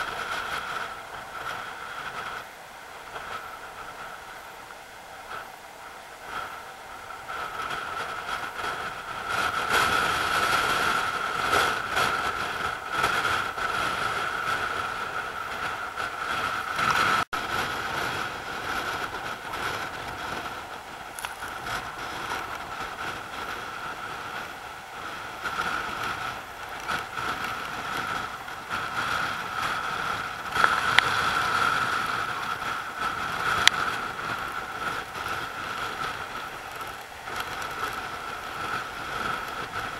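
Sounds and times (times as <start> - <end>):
sea surf churning around rocks: 0.0 - 39.9
wind buffeting microphone: 0.0 - 39.9.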